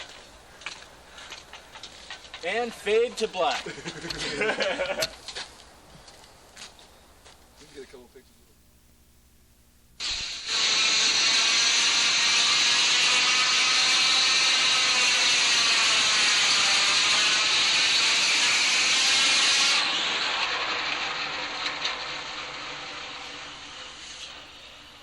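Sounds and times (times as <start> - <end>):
loud steady hiss: 0.0 - 25.0.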